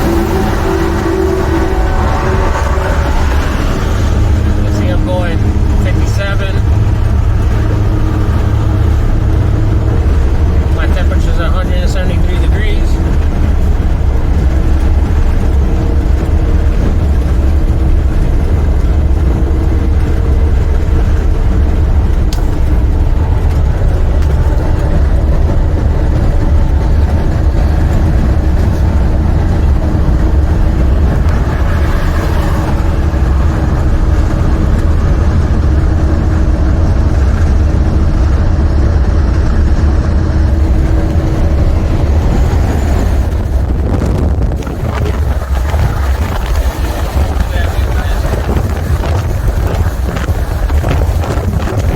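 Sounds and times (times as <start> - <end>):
diesel truck engine rumble: 0.0 - 51.9.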